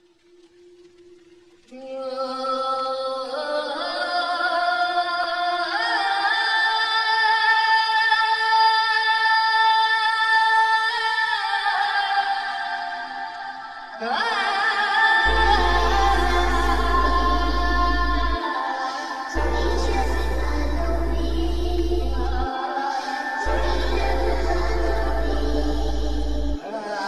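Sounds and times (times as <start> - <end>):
person singing long sliding notes: 1.7 - 27.0.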